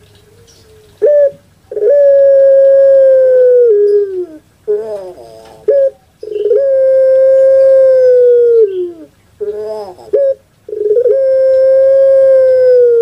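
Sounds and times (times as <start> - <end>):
dove cooing: 0.2 - 13.0.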